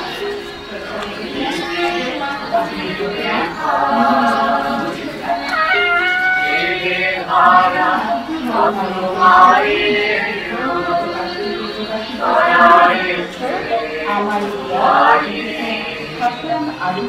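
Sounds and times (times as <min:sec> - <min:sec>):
people singing: 0:00.0 - 0:17.0.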